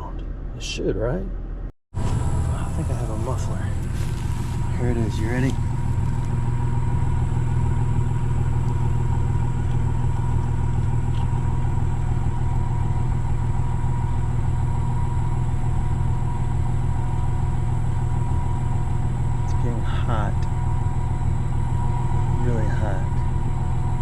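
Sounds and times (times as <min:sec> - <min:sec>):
vehicle engine idling: 0:02.0 - 0:24.0.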